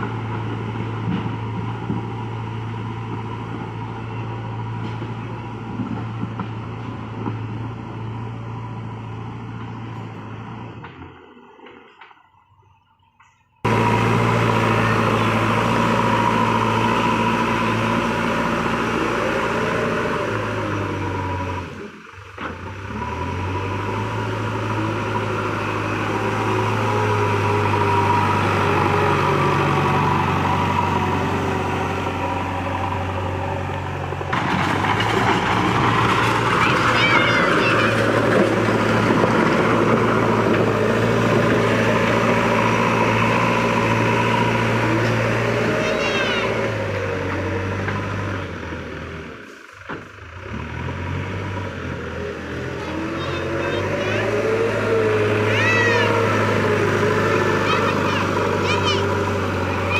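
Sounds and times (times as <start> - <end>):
heavy diesel engine running: 0.0 - 12.1, 13.2 - 59.9.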